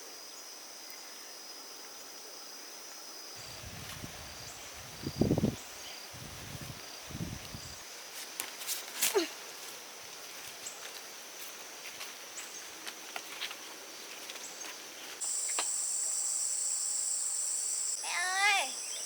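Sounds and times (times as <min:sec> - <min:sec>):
loud insect chorus: 0:00.0 - 0:19.0
high insect drone: 0:02.4 - 0:19.0.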